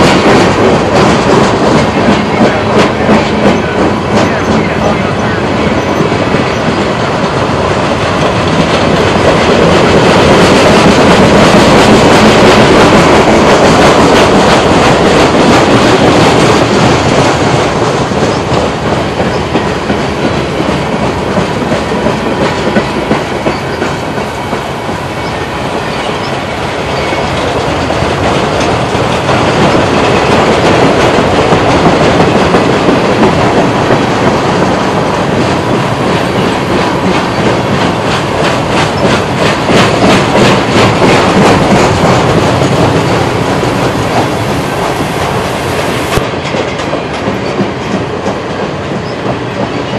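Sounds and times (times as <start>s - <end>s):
freight train wheels on rails: 0.0s - 49.9s.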